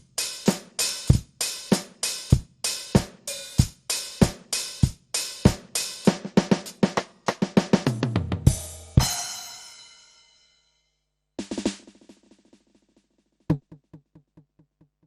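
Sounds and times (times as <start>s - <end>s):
electronic drum kit beat: 0.0s - 9.8s, 11.4s - 12.9s, 13.5s - 15.0s.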